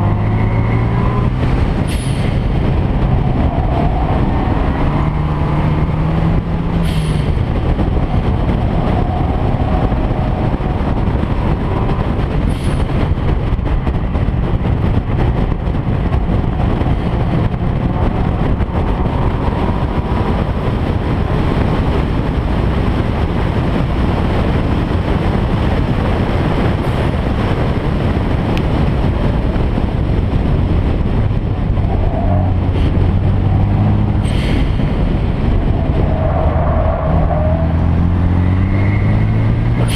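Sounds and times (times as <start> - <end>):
car engine drone: 0.0 - 39.9
road and wind noise: 0.0 - 39.9.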